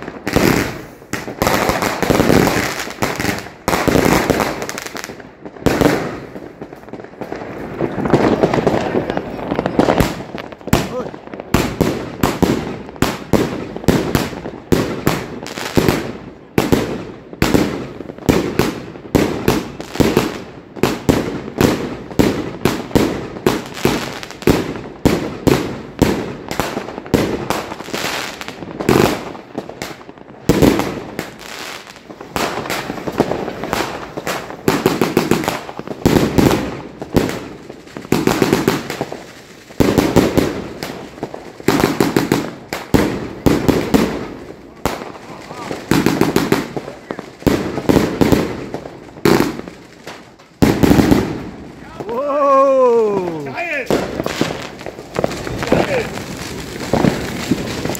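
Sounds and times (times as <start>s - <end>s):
fireworks and firecrackers bangs: 0.0s - 57.9s.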